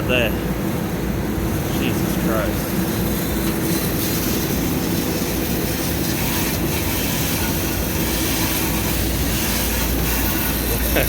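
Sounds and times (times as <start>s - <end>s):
air conditioner compressor whirring: 0.0s - 11.0s.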